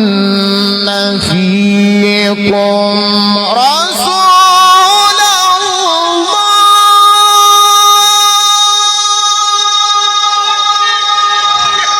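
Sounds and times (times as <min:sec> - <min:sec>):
man reciting holding a long note: 0:00.0 - 0:11.9.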